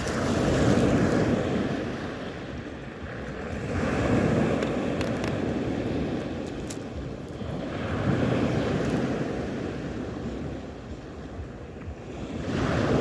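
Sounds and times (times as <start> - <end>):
sea surf washing onto shore: 0.0 - 13.0.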